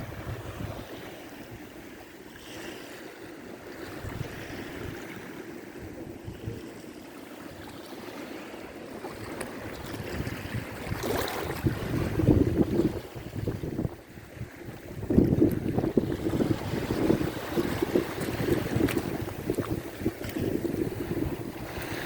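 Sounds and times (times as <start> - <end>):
wind buffeting microphone: 0.0 - 2.0, 3.8 - 6.8, 9.2 - 22.0
sea waves washing ashore: 0.0 - 22.0.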